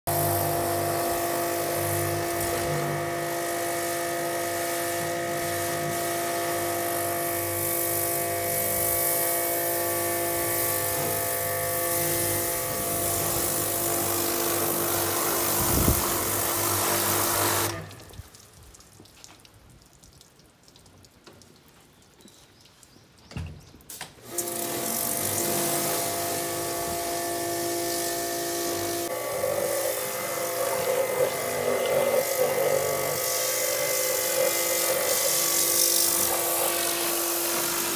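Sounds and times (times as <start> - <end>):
pressure washer spraying: 0.1 - 18.1, 24.2 - 37.9.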